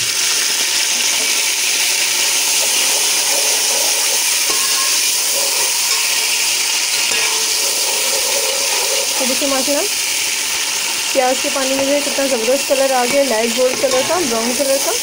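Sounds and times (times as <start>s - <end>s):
water sizzling in hot oil: 0.0s - 15.0s.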